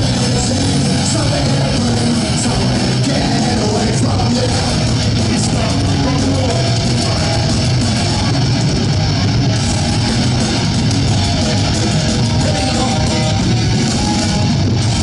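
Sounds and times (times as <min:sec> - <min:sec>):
bass guitar: 0:00.0 - 0:15.0
distorted electric guitars: 0:00.0 - 0:15.0
drums: 0:00.0 - 0:15.0.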